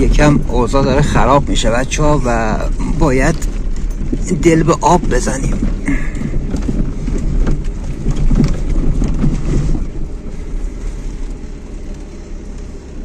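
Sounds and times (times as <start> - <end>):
stones knocking and crackling: 0.0 - 10.6
engine and tyres rumbling: 0.0 - 13.0.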